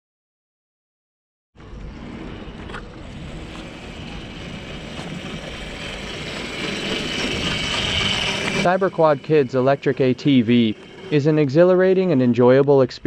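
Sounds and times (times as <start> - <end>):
electric motor hum: 1.6 - 12.4
tyres rumbling on stone paving: 1.6 - 12.6.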